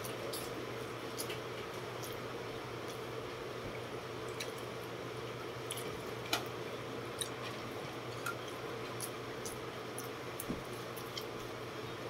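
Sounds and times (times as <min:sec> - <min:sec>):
chewing and squishy mouth noises: 0:00.0 - 0:03.1, 0:03.7 - 0:06.5, 0:07.1 - 0:12.0
electric fan humming: 0:00.0 - 0:12.0.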